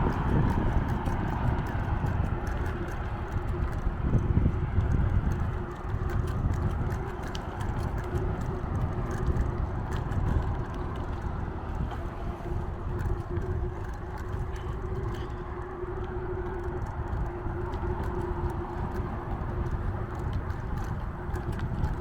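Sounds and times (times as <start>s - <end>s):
light ticks: 0.0s - 22.0s
road rumble: 0.0s - 22.0s
wind: 0.0s - 22.0s.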